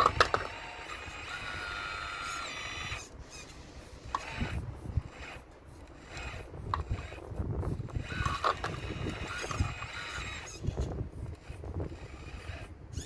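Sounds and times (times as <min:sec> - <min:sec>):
small motors whining: 0:00.0 - 0:13.0.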